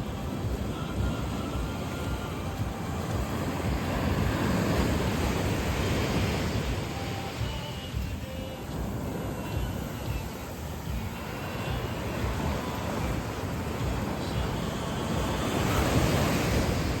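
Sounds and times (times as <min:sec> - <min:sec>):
sea surf washing onto beach: 0:00.0 - 0:17.0
wind buffeting microphone: 0:00.0 - 0:17.0.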